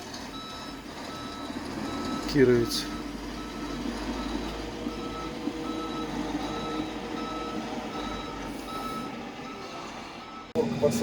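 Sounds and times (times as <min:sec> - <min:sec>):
engine running: 0:00.0 - 0:11.0
reversing alarm beeping: 0:00.3 - 0:11.0.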